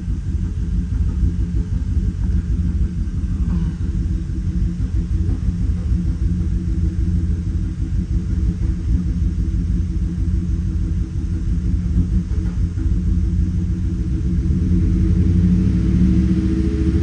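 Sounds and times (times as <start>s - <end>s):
misfiring engine idling: 0.0s - 17.0s.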